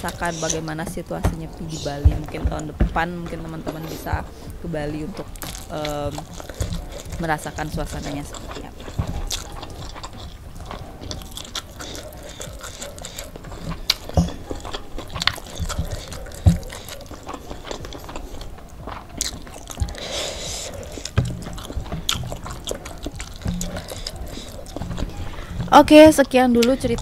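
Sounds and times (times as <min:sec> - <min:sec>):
crunching and chewing food: 0:00.0 - 0:27.0.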